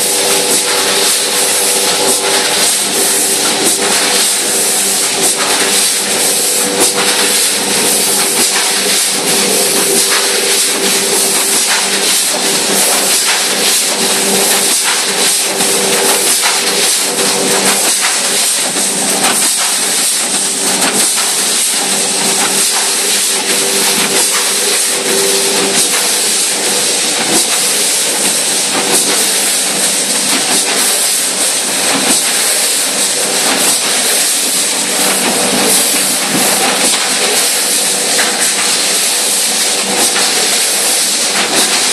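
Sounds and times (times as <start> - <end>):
machine hiss: 0.0 - 41.9
machine hum: 0.0 - 41.9
rapid machine clicks and clatter: 0.0 - 41.9.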